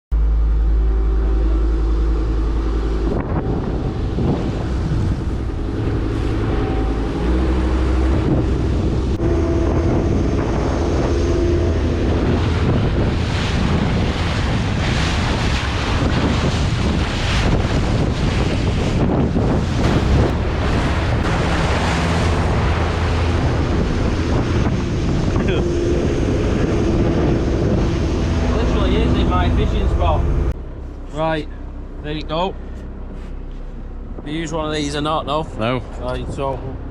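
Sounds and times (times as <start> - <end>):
motorboat engine running: 0.1 - 36.9
water noise: 0.1 - 36.9
wind buffeting microphone: 0.5 - 30.8.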